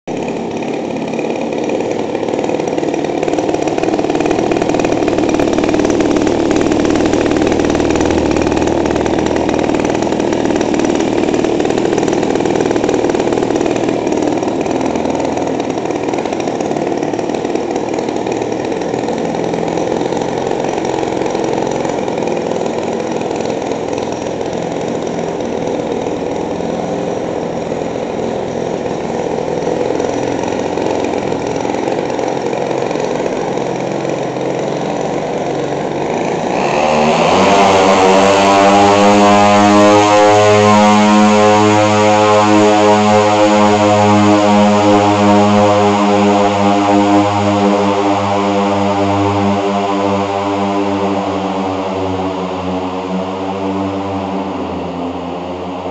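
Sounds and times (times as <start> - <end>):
two-stroke engine running: 0.0 - 55.9.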